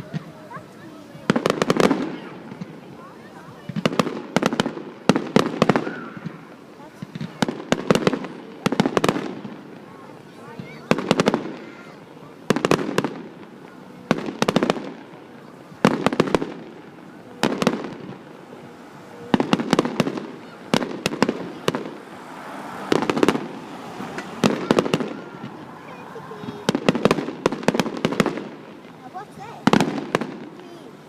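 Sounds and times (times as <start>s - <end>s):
fireworks cracking: 0.0s - 31.0s
fireworks rumble: 0.0s - 31.0s.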